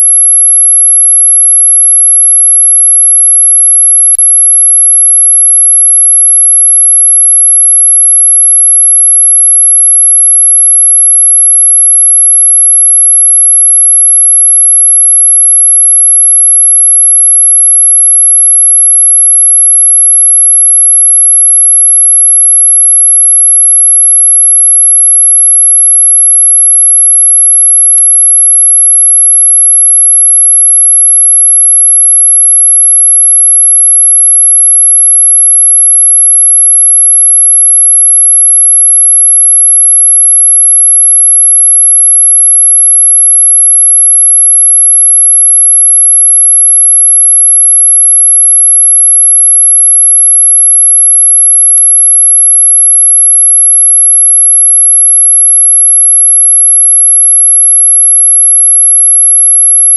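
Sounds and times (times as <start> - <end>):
high-pitched electronic sine tone: 0.0 - 59.9.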